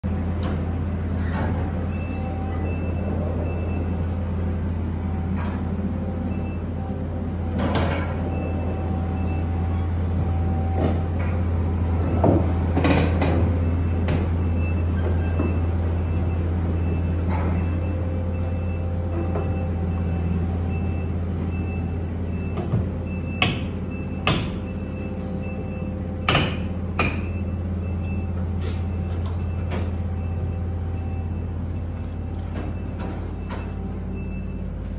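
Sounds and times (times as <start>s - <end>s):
low engine drone: 0.0s - 34.9s.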